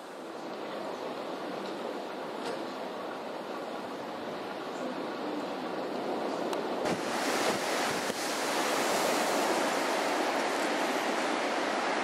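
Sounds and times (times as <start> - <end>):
wind over choppy water: 0.0 - 12.0.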